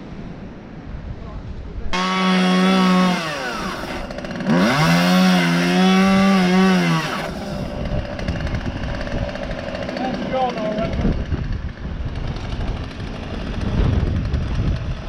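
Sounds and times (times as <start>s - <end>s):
chainsaw revving: 2.0s - 15.0s.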